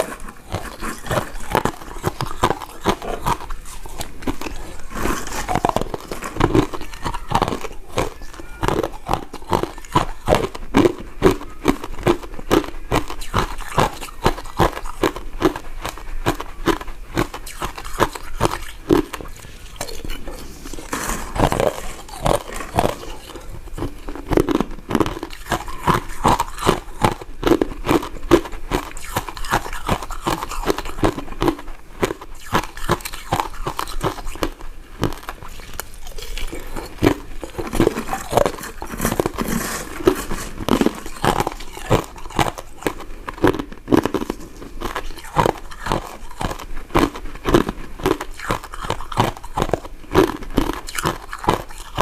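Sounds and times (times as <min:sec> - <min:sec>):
chewing candy: 0:00.0 - 0:52.0.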